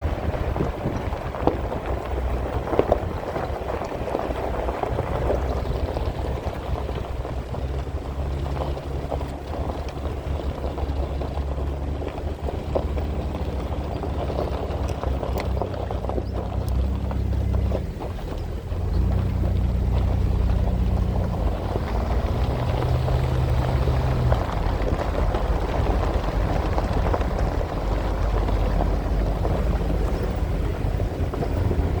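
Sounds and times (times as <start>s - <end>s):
off-road vehicle engine: 0.0s - 32.0s.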